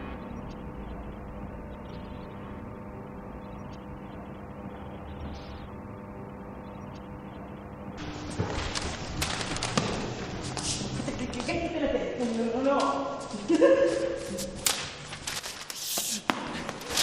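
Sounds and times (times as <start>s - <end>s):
dark ambient drone: 0.0s - 17.0s.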